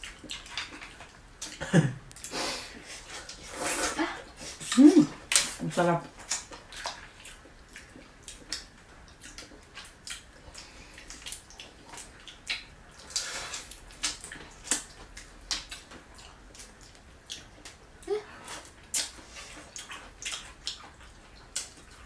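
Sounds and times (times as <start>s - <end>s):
wet smacking and slurping eating: 0.0s - 2.3s, 6.2s - 22.0s.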